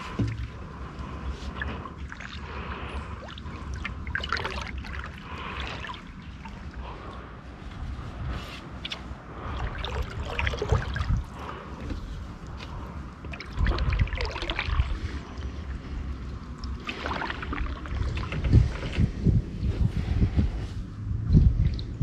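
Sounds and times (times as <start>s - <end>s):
canoe paddle strokes: 0.0s - 16.0s, 16.6s - 19.2s
water splashing and trickling: 0.0s - 20.3s, 20.9s - 22.0s
low rumble: 0.0s - 22.0s.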